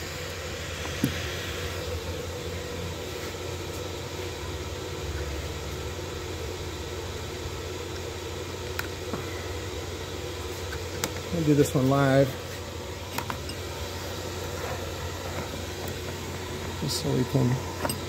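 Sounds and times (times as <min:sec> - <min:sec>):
room tone hum and hiss: 0:00.0 - 0:18.0.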